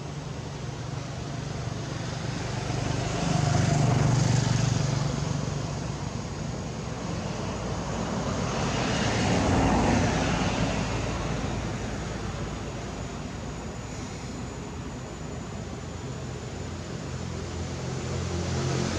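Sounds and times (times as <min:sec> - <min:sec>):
passing traffic engine drone: 0:00.0 - 0:18.9.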